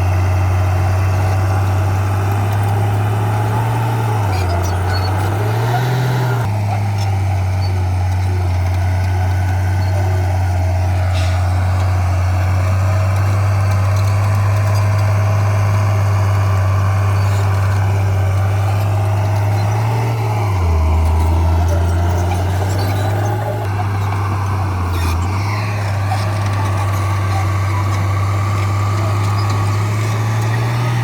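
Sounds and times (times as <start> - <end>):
diesel engine running under work: 0.0 - 31.0.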